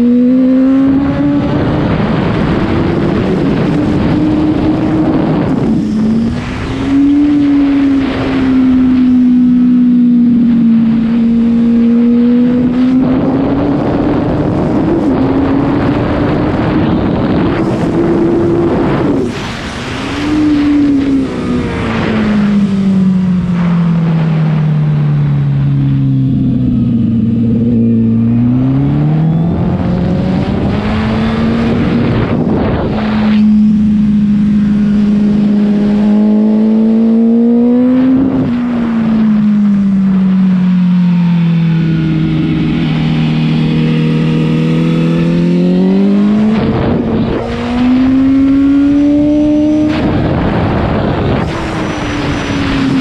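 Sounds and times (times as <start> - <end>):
motorcycle engine at racing speed: 0.0 - 53.0
wind rush on microphone: 0.0 - 53.0.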